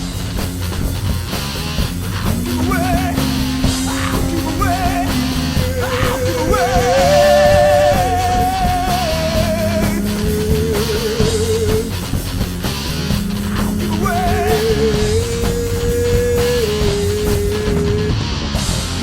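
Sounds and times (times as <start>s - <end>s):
heavy rock music: 0.0s - 19.0s.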